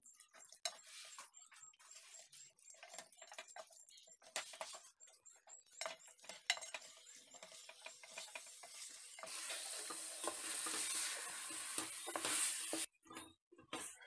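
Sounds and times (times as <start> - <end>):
chicken sizzling: 0.0 - 4.8, 5.7 - 12.9
wooden spatula scraping metal pot: 0.0 - 12.9.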